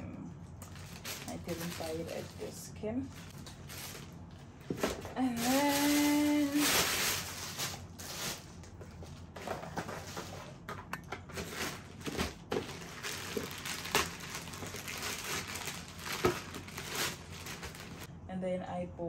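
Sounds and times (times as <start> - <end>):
plastic bags crinkling: 0.6 - 10.6, 11.3 - 18.1.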